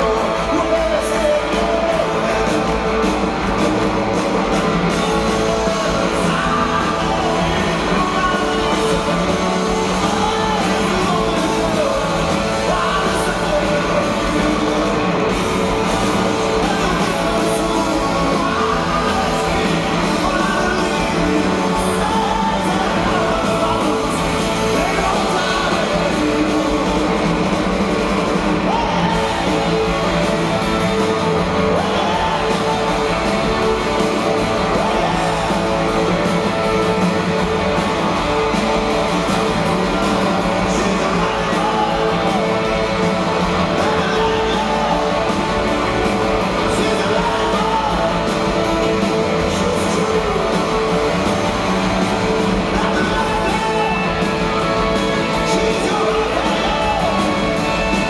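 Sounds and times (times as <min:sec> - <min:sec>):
guitars: 0:00.0 - 0:58.0
person singing lead vocal: 0:00.0 - 0:58.0
rock band playing live: 0:00.0 - 0:58.0.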